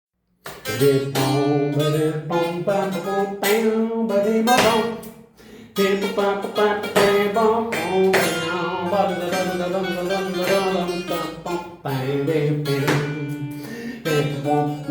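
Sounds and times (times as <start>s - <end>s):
guitar plucked melody: 0.4s - 14.9s.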